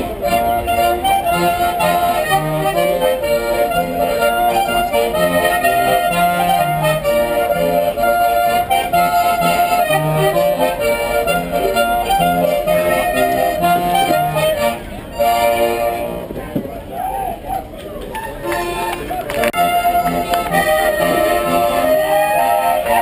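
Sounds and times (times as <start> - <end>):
accordion playing folk dance tune: 0.0 - 16.4, 18.2 - 23.0.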